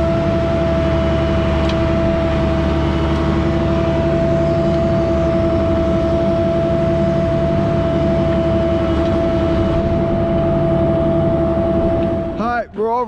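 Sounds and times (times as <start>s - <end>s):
engine rumble with whine: 0.0s - 13.0s.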